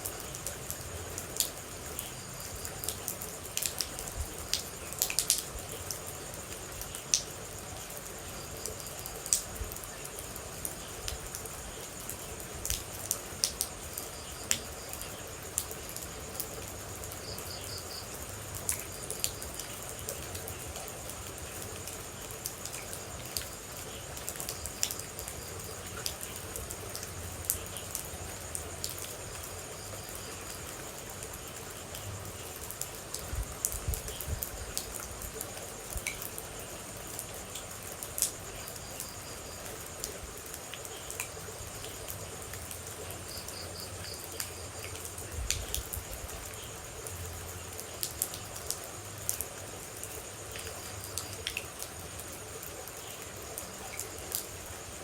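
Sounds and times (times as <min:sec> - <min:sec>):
insect chirring: 0:00.0 - 0:55.0
steady rain: 0:00.0 - 0:55.0
water droplets dripping: 0:00.1 - 0:06.1, 0:08.6 - 0:36.5, 0:37.1 - 0:54.5.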